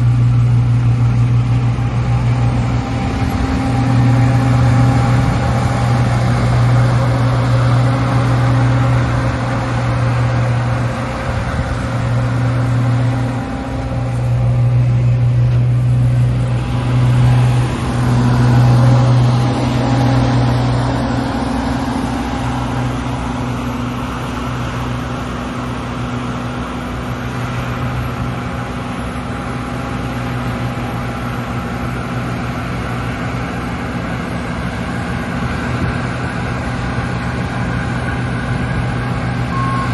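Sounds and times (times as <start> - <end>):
diesel engine humming: 0.0 - 39.9
machinery noise: 0.0 - 39.9.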